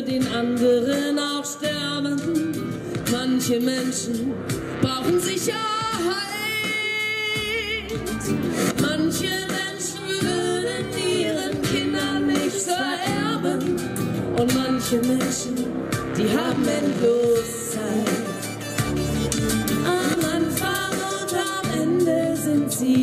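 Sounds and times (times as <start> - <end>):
women singing into microphones: 0.0 - 18.6, 19.8 - 23.0
instrumental backing music: 0.0 - 23.0.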